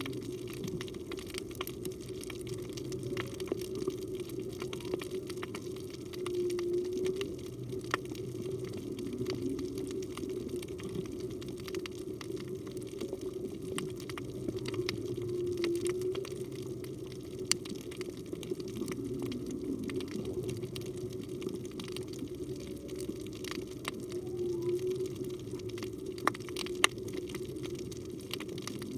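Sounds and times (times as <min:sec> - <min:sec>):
underwater rush of water: 0:00.0 - 0:28.9
whale song tones: 0:03.2 - 0:11.8, 0:13.0 - 0:27.8.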